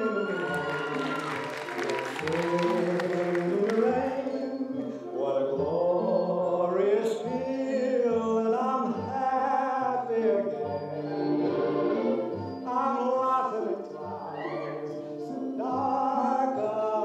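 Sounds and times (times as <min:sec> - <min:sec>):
voices singing gliding notes: 0:00.0 - 0:17.0.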